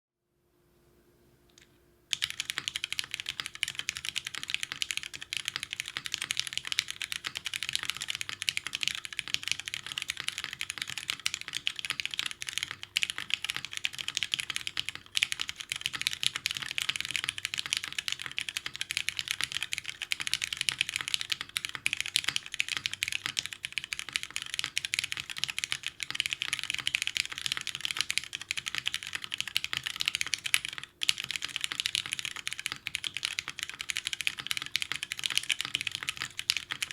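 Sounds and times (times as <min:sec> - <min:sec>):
mechanical keyboard typing: 0:02.1 - 0:36.9.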